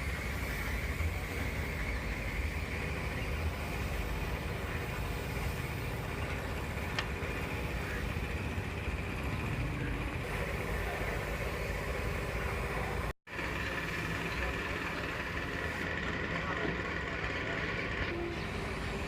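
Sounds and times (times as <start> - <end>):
machine running with low rumble: 0.0 - 19.0.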